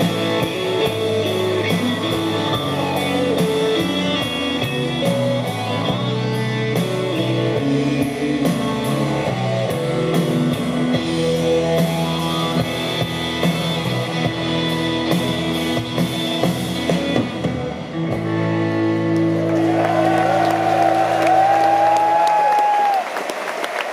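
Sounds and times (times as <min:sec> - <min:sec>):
live rock band playing: 0:00.0 - 0:22.9.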